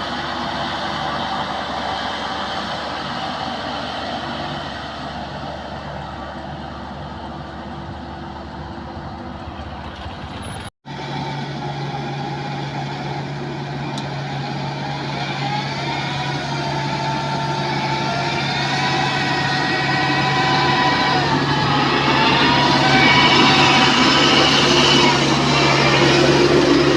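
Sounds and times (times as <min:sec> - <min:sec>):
combine harvester engine running: 0:00.0 - 0:26.9.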